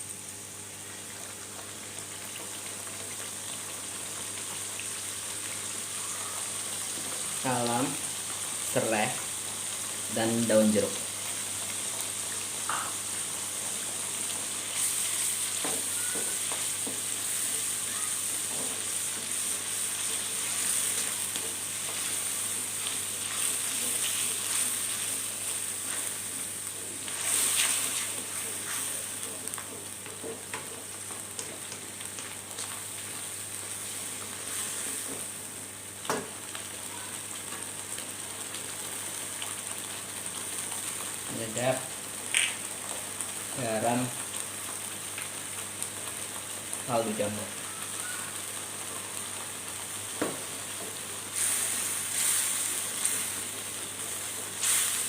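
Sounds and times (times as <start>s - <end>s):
paste sizzling in hot oil: 0.1s - 55.0s.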